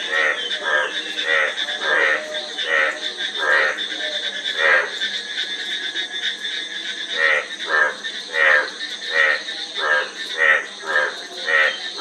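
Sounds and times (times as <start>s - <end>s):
frog croaking: 0.0s - 12.0s.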